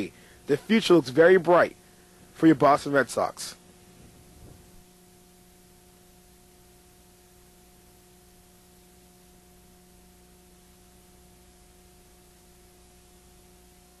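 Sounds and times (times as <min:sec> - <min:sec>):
faint steady hiss: 0:00.0 - 0:14.0
low electrical hum: 0:00.0 - 0:14.0.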